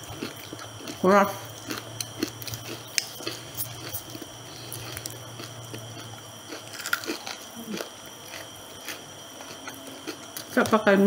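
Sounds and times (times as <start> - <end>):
biting and chewing fried chicken: 0.0 - 10.6
faint steady hum: 0.0 - 11.0.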